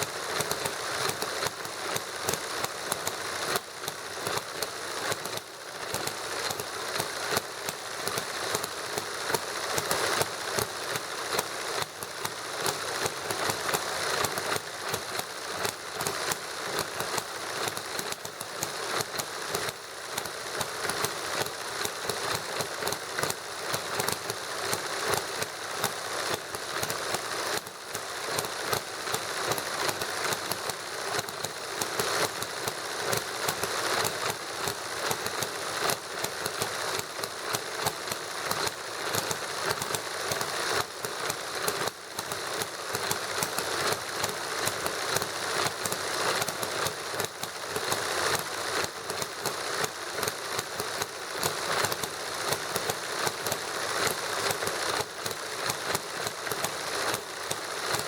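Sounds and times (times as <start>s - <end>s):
small gasoline engine clattering: 0.0s - 58.0s.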